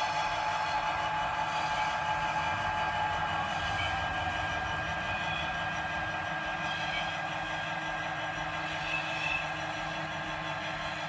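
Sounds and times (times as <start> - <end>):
diesel engine sound through small speaker: 0.0 - 11.0
thin steady whine: 0.0 - 11.0.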